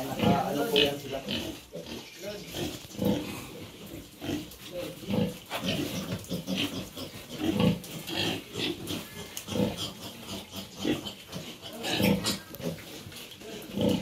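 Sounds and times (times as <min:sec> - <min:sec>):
pigs grunting: 0:00.0 - 0:14.0.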